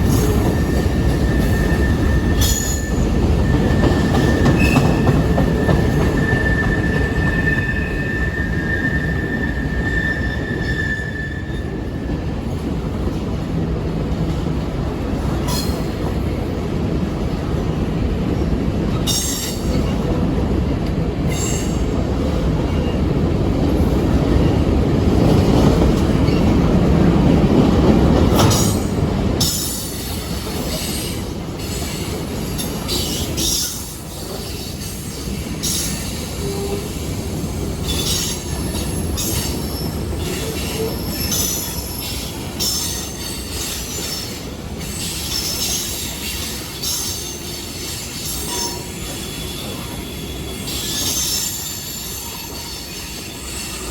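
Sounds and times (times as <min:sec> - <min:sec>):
train wheels clacking: 0:00.0 - 0:10.7, 0:11.6 - 0:53.9
wheels squealing on rails: 0:00.0 - 0:12.6, 0:18.9 - 0:20.5, 0:21.2 - 0:27.0, 0:28.1 - 0:53.9
train rumbling past: 0:00.0 - 0:53.9.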